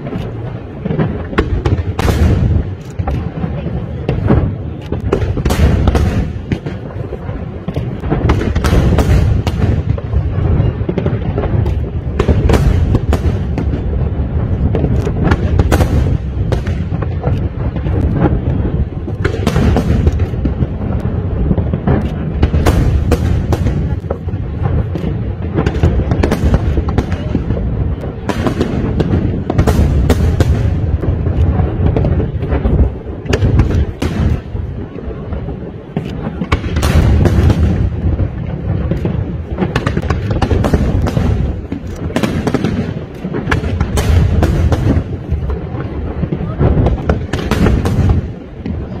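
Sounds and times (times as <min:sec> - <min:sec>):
fireworks cracking: 0:00.0 - 0:49.0.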